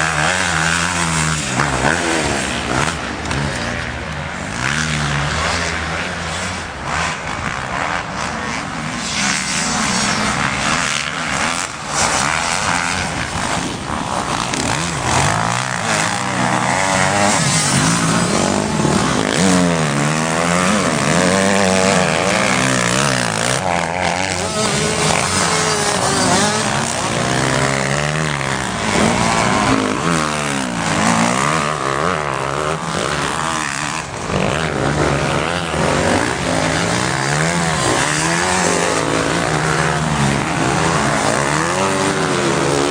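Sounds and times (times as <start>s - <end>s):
motocross bikes revving: 0.0s - 42.9s.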